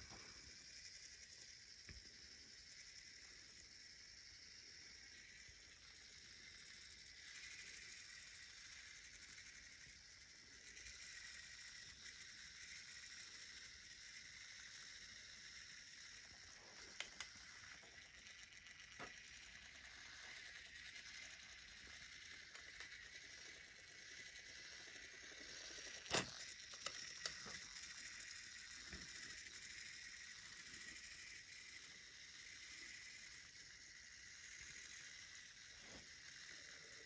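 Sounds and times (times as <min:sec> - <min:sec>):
toy train motor whirring: 0:00.0 - 0:37.0.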